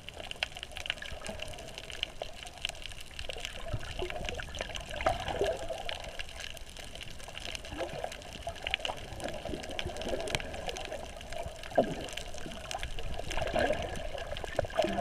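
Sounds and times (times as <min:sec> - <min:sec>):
underwater bubbling and gurgling: 0:00.0 - 0:15.0.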